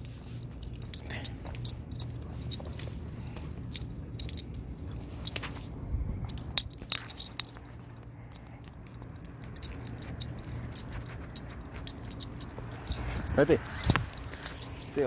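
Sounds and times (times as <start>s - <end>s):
chain collar clinking: 0.0s - 15.0s
low steady rumble: 0.0s - 15.0s.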